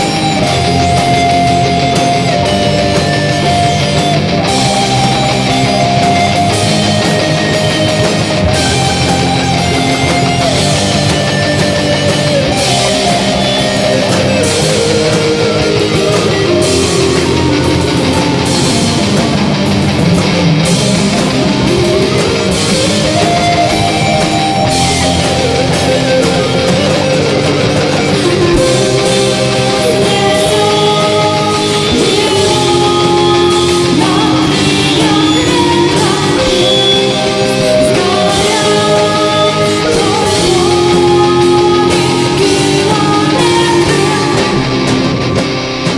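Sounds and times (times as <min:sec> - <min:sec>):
heavy rock music with electric guitar: 0:00.0 - 0:45.9.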